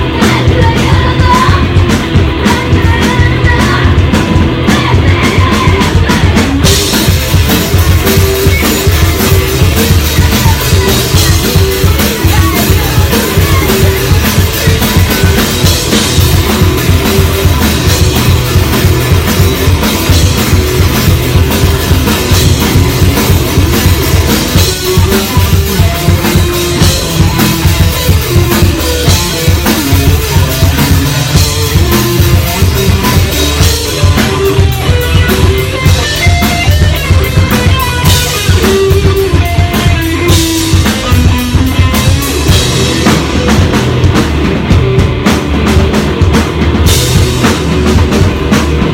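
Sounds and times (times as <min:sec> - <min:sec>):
drum kit kick and snare: 0:00.0 - 0:48.9
live rock band playing: 0:00.0 - 0:48.9.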